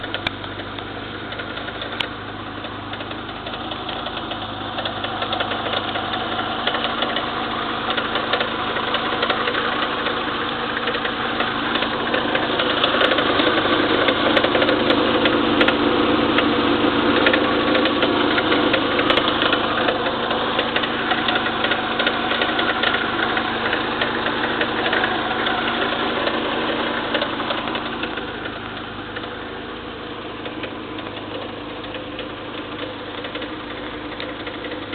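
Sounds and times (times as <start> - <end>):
engine running: 0.0 - 34.9
fast engine clicking: 0.0 - 34.9.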